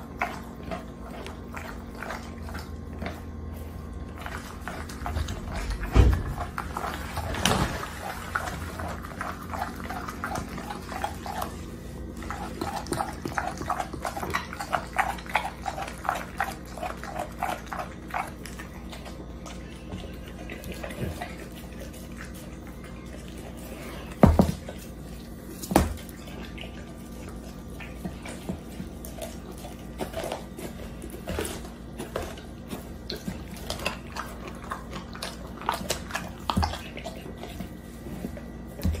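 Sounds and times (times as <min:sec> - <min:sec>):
dog chewing and licking: 0:00.0 - 0:39.0.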